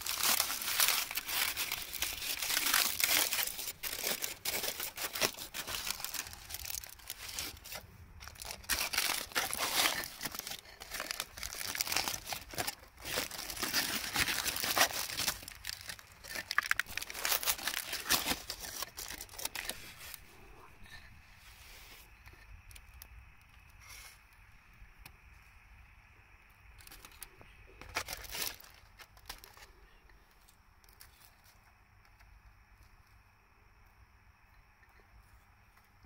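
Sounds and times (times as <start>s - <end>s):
crinkling and crumpling: 0.0s - 24.4s, 26.6s - 32.9s.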